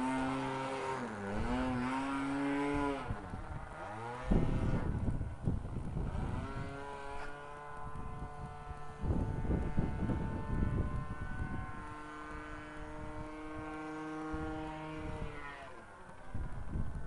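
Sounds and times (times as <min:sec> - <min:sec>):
wind buffeting microphone: 0:00.0 - 0:15.5, 0:16.2 - 0:17.0
model airplane engine droning: 0:00.0 - 0:17.0.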